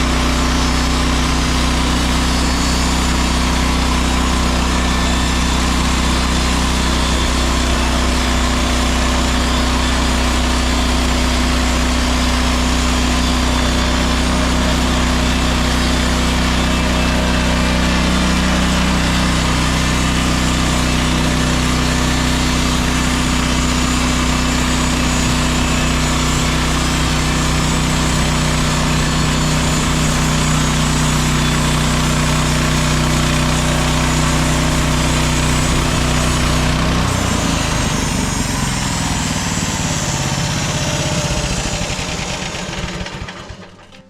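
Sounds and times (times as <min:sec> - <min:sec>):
sawmill gas engine running: 0:00.0 - 0:44.0.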